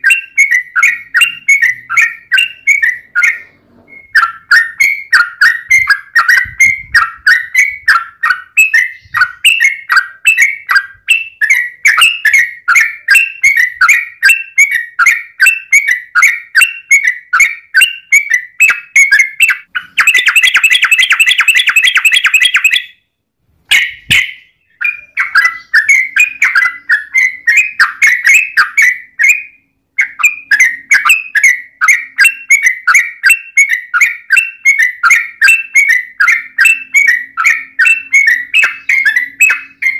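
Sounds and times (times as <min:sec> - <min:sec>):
bird singing chirping notes: 0:00.0 - 0:39.9.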